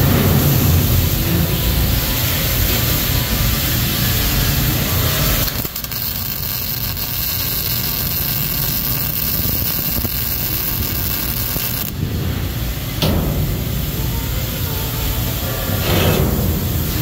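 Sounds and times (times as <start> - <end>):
loud steady rushing noise: 0.0 - 17.0
welding arc crackling: 0.0 - 17.0.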